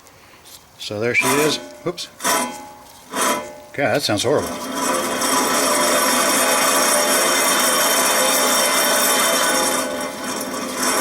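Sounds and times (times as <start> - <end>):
wheel bearing grinding rasp: 1.2 - 11.0.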